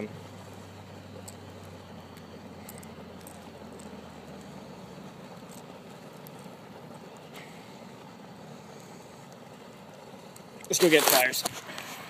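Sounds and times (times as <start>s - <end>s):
steady background rumble: 0.0s - 12.0s.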